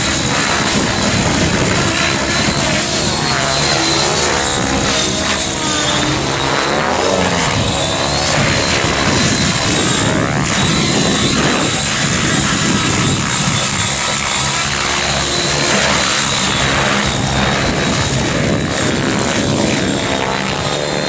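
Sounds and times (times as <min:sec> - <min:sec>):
rc helicopter motor whine: 0:00.0 - 0:21.0
rotor blade noise: 0:00.0 - 0:21.0.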